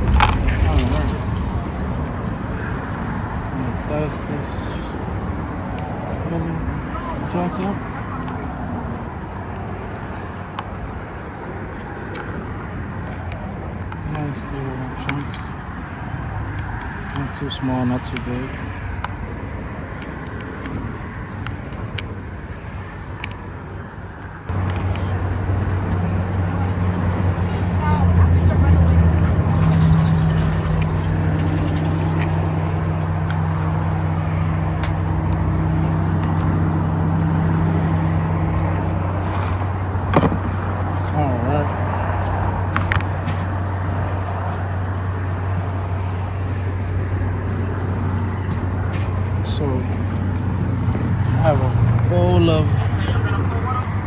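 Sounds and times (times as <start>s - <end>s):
low engine hum: 0.0s - 54.0s
road traffic passing: 0.0s - 54.0s.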